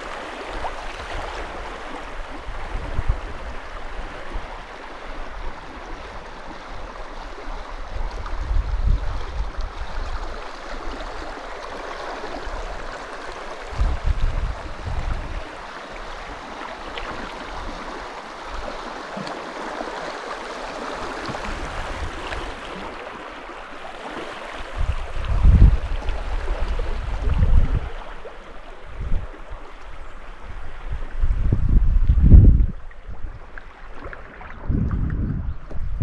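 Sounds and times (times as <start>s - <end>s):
wind buffeting microphone: 0.0s - 6.1s, 7.4s - 11.0s, 12.4s - 18.8s, 20.7s - 23.0s, 24.5s - 36.0s
river water rushing: 0.0s - 8.4s, 9.8s - 30.9s.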